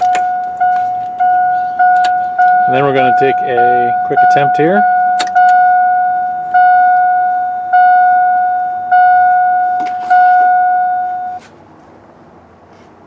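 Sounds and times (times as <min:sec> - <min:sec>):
bell-like warning chime: 0:00.0 - 0:11.4.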